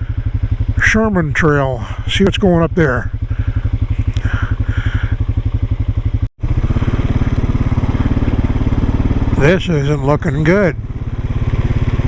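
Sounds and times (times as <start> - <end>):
off-road vehicle engine chugging: 0.0 - 12.0.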